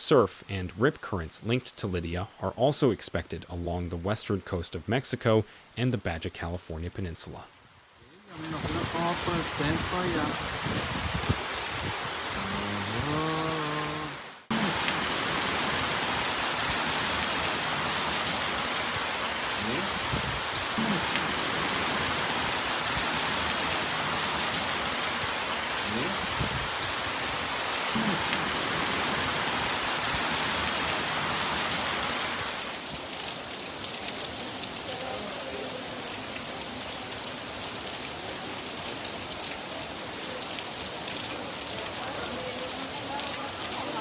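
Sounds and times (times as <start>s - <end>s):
heavy rain pouring: 5.2s - 44.0s.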